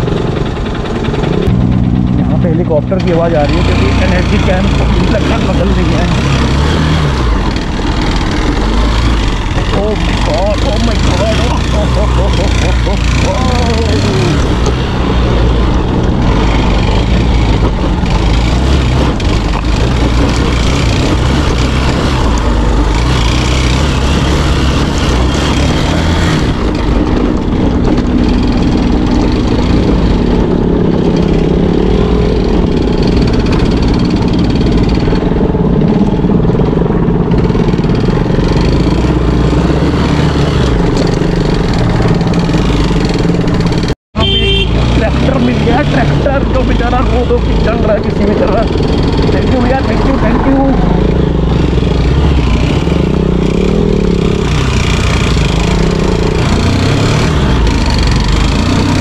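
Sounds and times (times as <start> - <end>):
motorcycle engine running: 0.0 - 59.0
wind and road noise rumble: 0.0 - 59.0.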